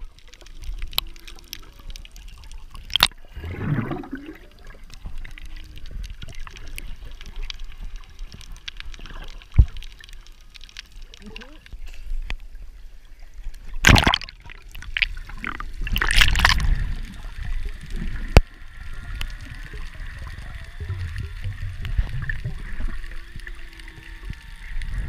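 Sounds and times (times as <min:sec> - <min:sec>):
water splashing and bubbling: 0:00.0 - 0:25.0.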